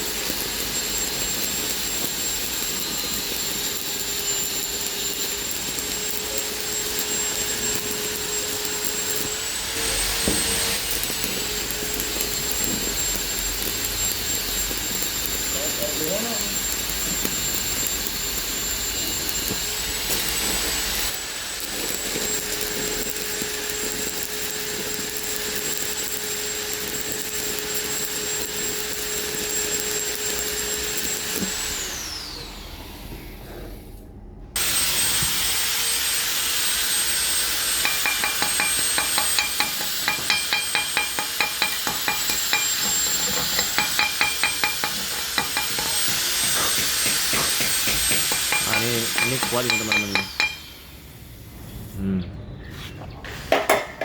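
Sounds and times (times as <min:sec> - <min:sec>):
power tool whining: 0:00.0 - 0:33.4, 0:34.6 - 0:51.5
workshop noise: 0:00.0 - 0:54.0.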